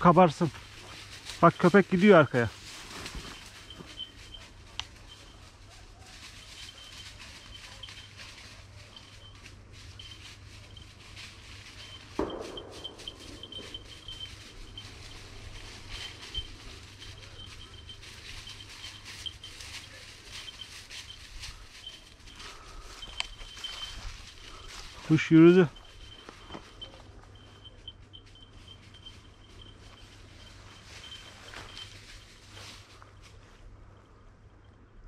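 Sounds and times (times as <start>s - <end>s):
rustling through dry undergrowth: 0.0s - 34.6s
faint high ringing: 0.0s - 35.0s.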